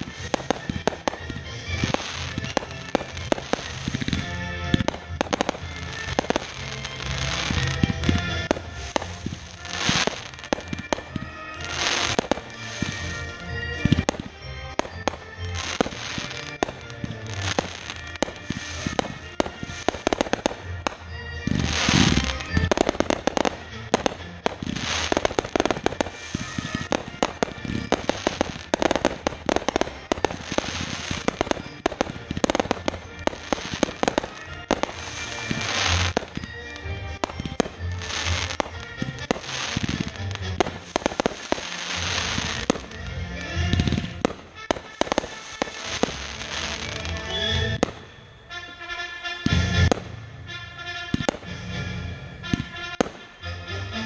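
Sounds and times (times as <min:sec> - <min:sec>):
fireworks bangs and crackles: 0:00.0 - 0:54.0
music: 0:00.0 - 0:54.0.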